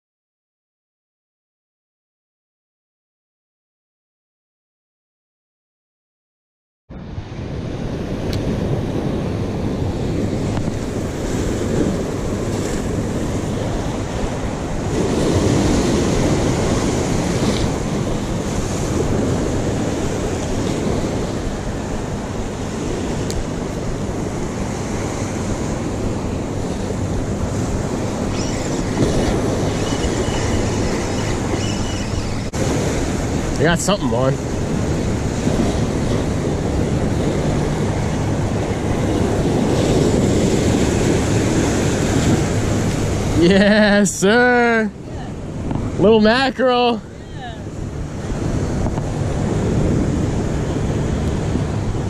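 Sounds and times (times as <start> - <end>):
wind rumbling on microphone: 6.9 - 52.0
surf breaking over rocks: 8.0 - 52.0.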